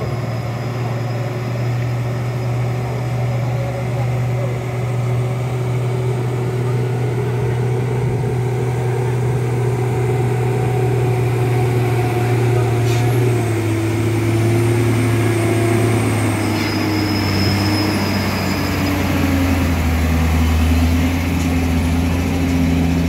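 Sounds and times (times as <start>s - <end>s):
truck diesel engine droning: 0.0s - 23.0s.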